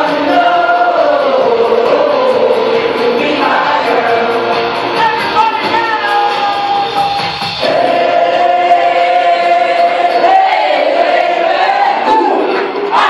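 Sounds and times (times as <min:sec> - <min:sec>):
loud party music with singing: 0:00.0 - 0:13.0.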